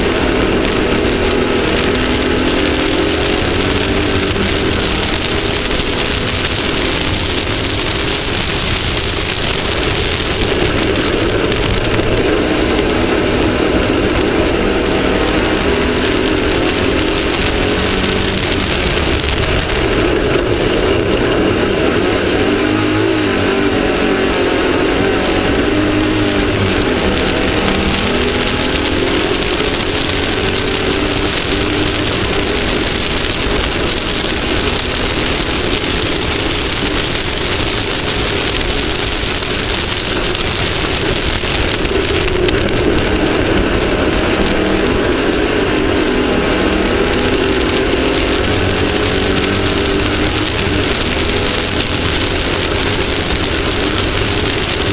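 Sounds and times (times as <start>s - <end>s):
dense rush of noise: 0.0s - 54.9s
off-road vehicle engine revving: 0.0s - 54.9s.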